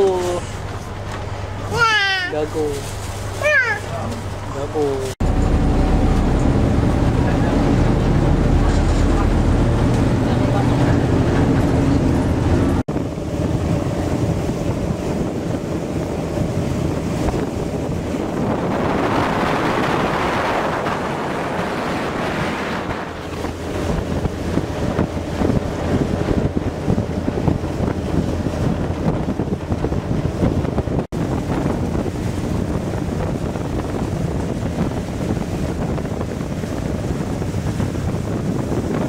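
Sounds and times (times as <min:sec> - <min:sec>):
boat engine rumble: 0:00.0 - 0:39.0
rushing water from wake: 0:00.0 - 0:39.0
wind buffeting microphone: 0:05.1 - 0:39.0.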